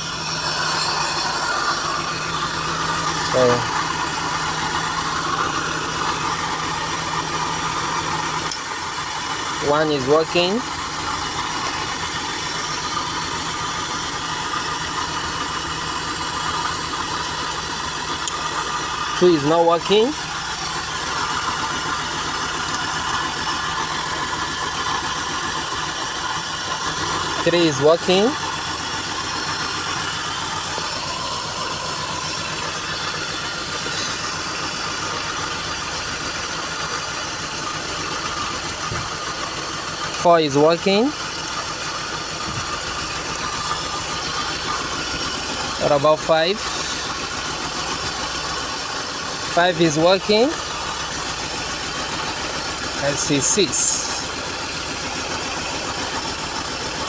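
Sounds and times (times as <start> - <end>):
car engine idling with misfire: 0.0 - 57.0.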